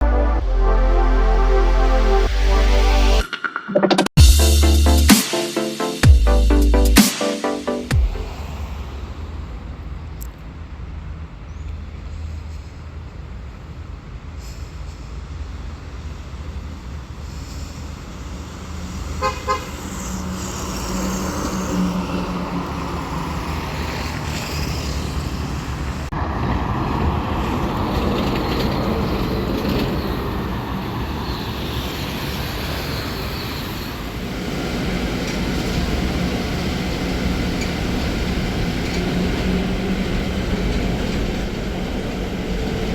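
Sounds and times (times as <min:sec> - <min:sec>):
bus road and tyre rumble: 0:08.2 - 0:42.9.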